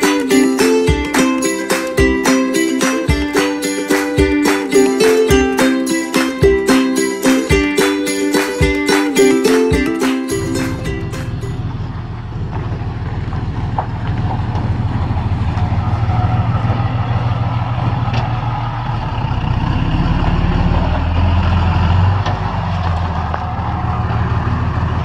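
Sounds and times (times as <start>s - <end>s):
diesel truck engine drone: 0.0s - 25.0s.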